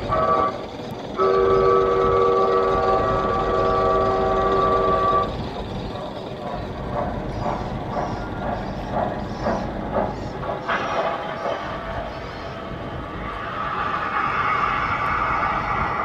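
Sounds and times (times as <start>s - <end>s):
steam locomotive whistle: 0.0s - 5.6s, 7.3s - 16.0s
steam locomotive chuffing: 0.0s - 16.0s.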